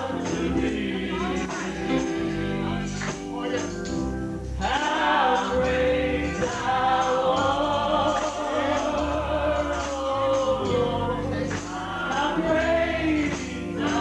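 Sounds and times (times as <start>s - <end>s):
man singing a hymn: 0.0s - 2.9s, 4.6s - 14.0s
low organ accompaniment: 0.0s - 14.0s.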